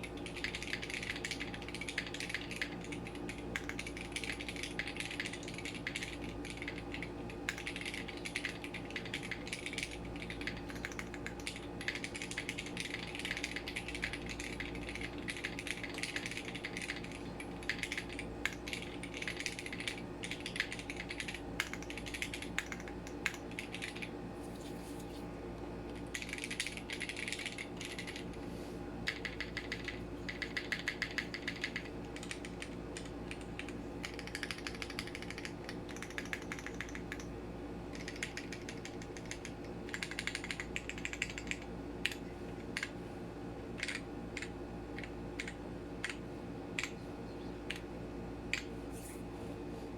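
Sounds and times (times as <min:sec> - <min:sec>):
mechanical keyboard typing: 0:00.0 - 0:24.1, 0:26.0 - 0:28.3, 0:29.0 - 0:37.3, 0:37.9 - 0:43.0, 0:43.8 - 0:46.2
faint steady hum: 0:00.0 - 0:49.9.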